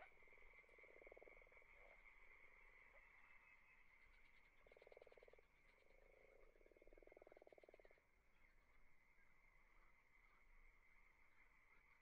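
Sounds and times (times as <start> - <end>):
faint high-pitched hum: 0.0 - 12.0
frogs croaking: 0.0 - 12.0.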